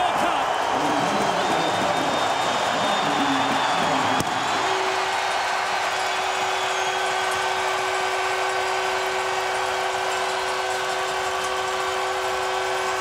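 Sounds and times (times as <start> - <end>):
crowd cheering: 0.0 - 13.0.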